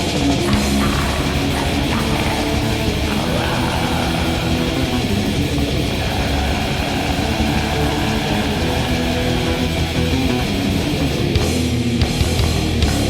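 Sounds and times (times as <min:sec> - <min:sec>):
distorted electric guitars metal music: 0:00.0 - 0:13.0.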